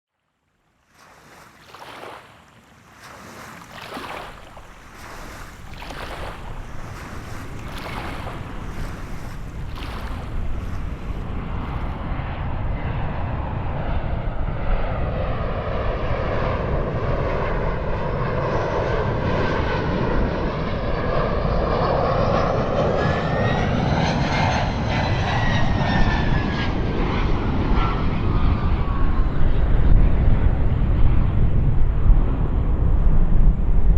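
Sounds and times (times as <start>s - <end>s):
jet airliner engine whine: 4.3s - 33.9s.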